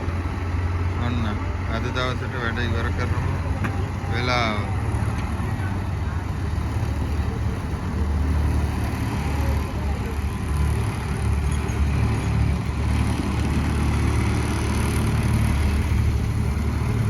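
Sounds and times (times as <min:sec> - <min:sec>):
paving machinery engines rumbling: 0:00.0 - 0:17.0.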